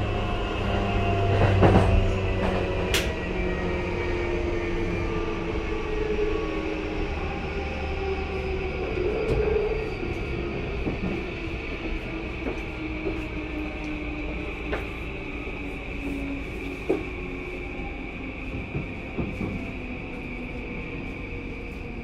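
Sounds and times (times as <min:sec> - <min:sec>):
train wheel-on-rail rumble: 0:00.0 - 0:22.0.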